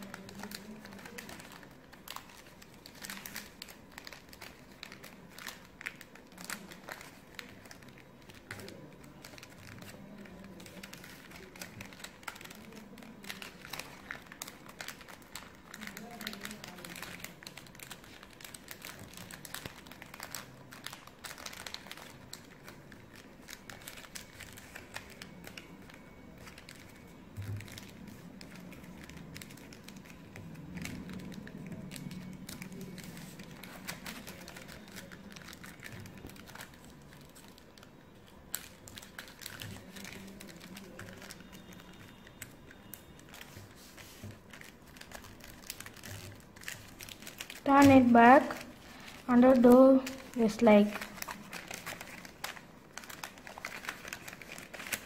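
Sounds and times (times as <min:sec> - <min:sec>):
paper crinkling and rustling: 0:00.0 - 0:55.0.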